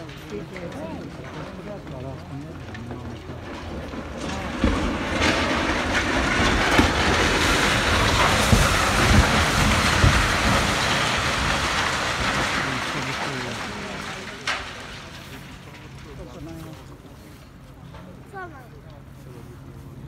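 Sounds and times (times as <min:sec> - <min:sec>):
rubble crashing down: 0:00.0 - 0:17.6.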